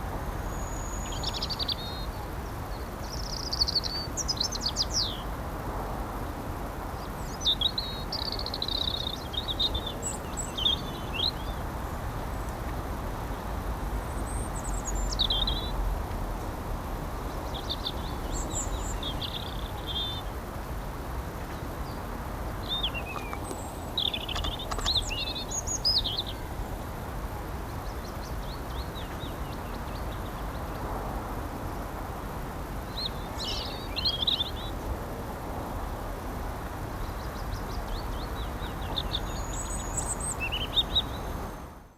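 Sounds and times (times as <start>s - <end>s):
small birds chirping: 0.0s - 5.3s, 7.0s - 12.7s, 13.3s - 15.8s, 17.2s - 30.8s, 31.5s - 34.9s, 36.8s - 41.9s.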